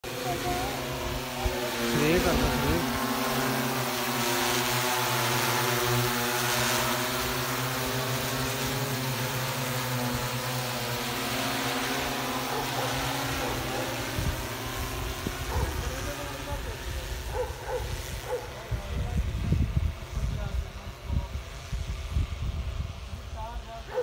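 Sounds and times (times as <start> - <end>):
drone rotors humming: 0.0 - 23.9.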